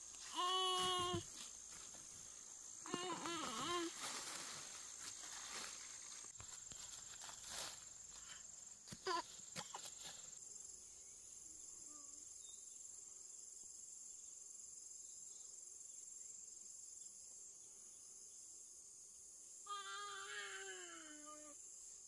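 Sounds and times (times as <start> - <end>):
insect chorus trilling: 0.0 - 22.0.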